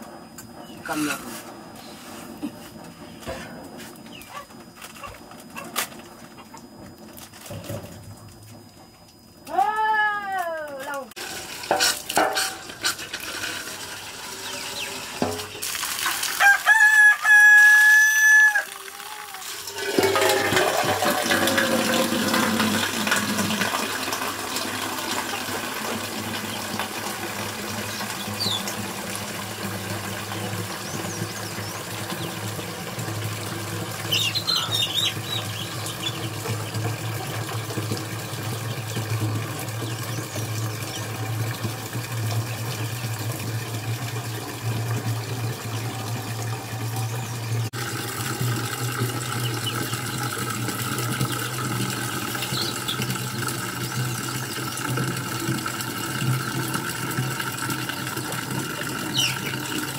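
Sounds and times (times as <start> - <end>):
water pouring into metal jug: 11.2 - 59.9.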